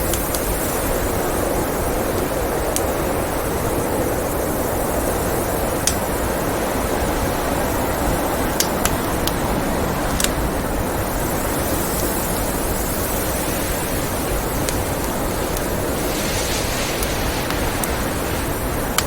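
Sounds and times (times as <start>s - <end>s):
rushing blizzard wind: 0.0s - 19.0s
wood fire crackling and popping: 0.0s - 19.0s.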